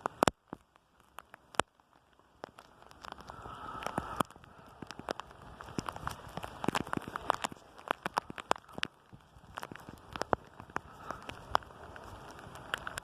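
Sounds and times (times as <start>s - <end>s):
raindrops ticking close by: 0.0s - 13.0s
heavy rain hissing: 2.4s - 13.0s.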